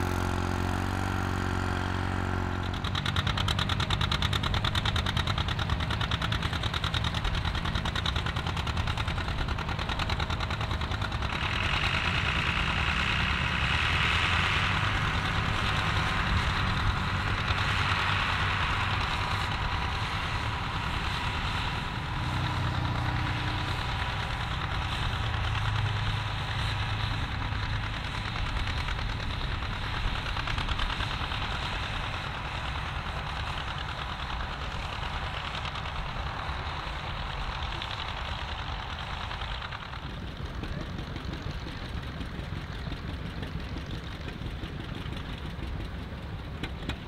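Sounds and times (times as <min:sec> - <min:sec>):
tractor engine running under load: 0:00.0 - 0:47.0.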